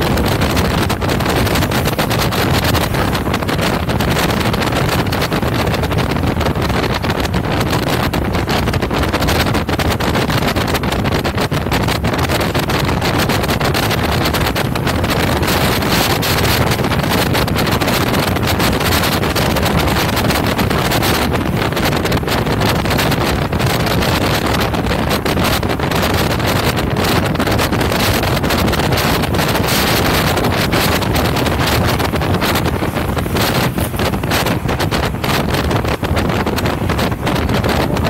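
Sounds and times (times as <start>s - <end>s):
churning water: 0.0s - 38.0s
speedboat engine: 0.0s - 38.0s
wind buffeting microphone: 0.0s - 38.0s.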